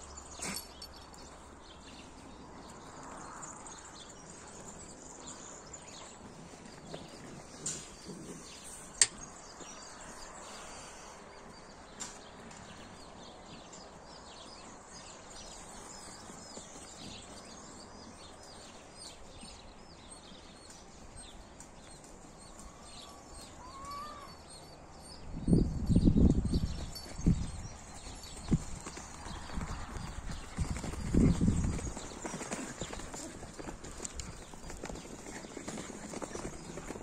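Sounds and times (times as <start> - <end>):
small birds chirping: 0.0 - 37.0
steady outdoor noise: 0.0 - 37.0.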